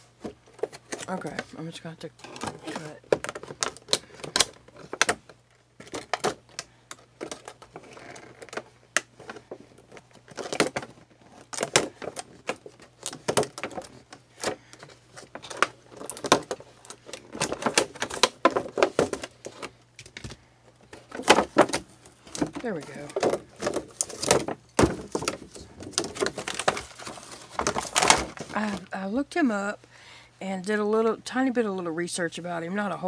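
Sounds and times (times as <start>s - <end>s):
stiff plastic crackling: 0.2s - 29.0s.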